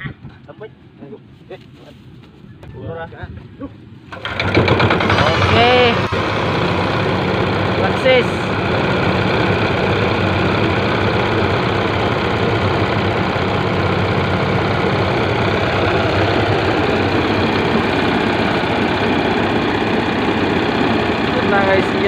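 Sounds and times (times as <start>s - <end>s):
small engine running: 4.1s - 22.0s
threshing machine: 4.1s - 22.0s.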